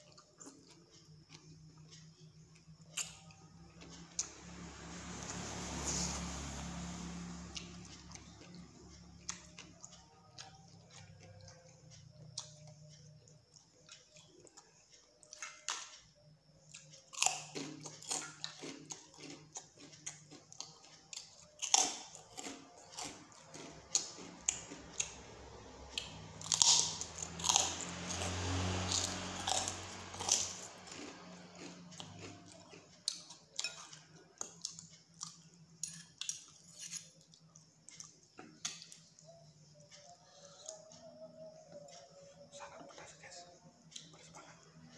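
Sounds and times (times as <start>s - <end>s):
person chewing noodles: 0.0s - 6.2s, 7.4s - 16.0s, 16.6s - 44.9s.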